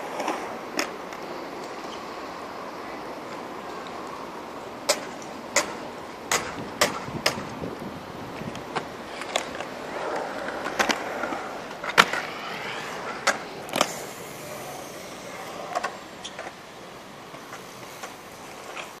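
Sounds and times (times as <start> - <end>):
skate wheels rolling on concrete: 0.0 - 19.0.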